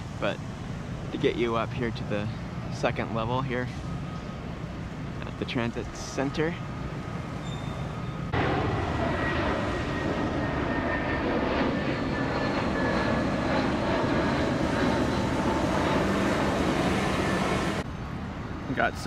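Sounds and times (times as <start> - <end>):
jet airliner engines roaring: 0.0 - 19.0.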